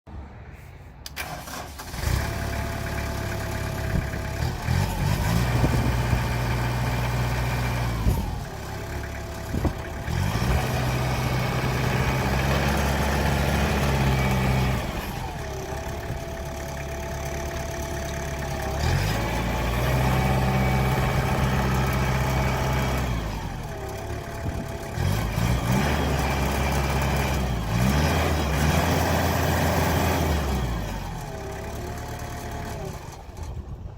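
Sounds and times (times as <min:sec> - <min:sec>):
tractor diesel engine revving: 0:01.0 - 0:33.9.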